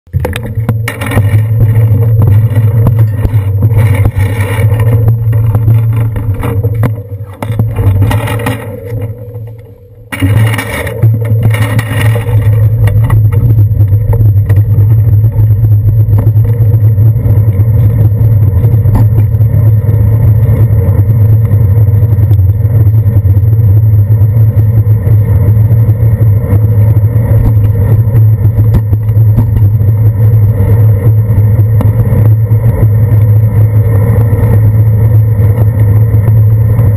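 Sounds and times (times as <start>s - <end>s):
wind and road rumble: 0.1s - 36.9s.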